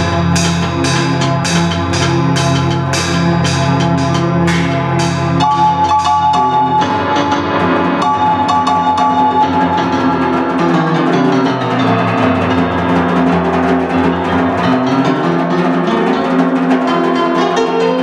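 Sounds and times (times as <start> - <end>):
sustained keyboard chords: 0.0 - 18.0.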